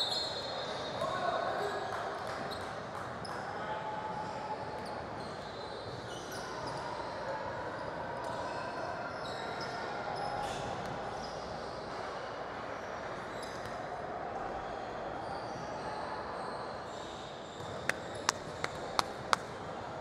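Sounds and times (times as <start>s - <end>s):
echoing gym background noise: 0.0s - 20.0s.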